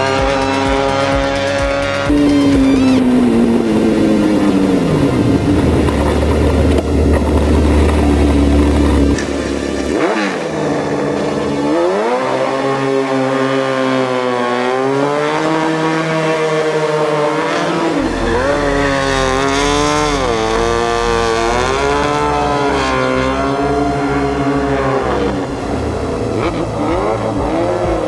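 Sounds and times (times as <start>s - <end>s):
go-kart engine revving: 0.0s - 28.0s.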